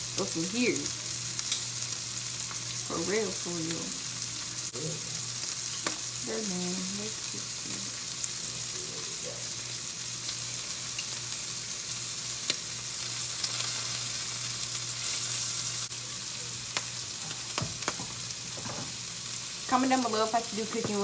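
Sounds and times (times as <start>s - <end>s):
shrimp sizzling in oil: 0.0s - 21.0s.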